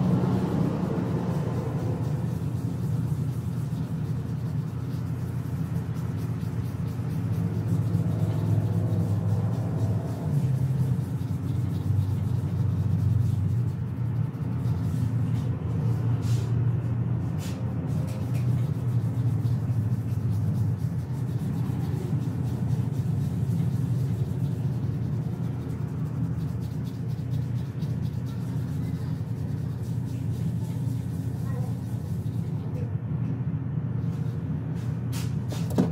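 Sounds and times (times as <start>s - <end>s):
low rumble and hum: 0.0s - 35.9s.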